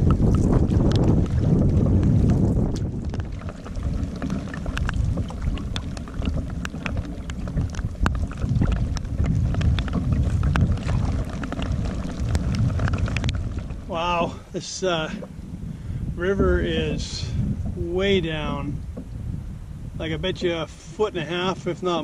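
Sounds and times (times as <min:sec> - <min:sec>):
water lapping against canoe: 0:00.0 - 0:22.0
wind buffeting microphone: 0:00.0 - 0:22.0.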